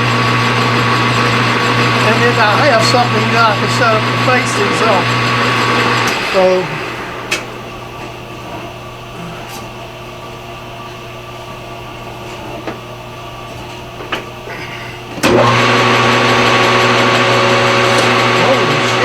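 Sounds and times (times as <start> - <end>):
lathe motor whining: 0.0 - 19.0
shop machine humming: 0.0 - 19.0.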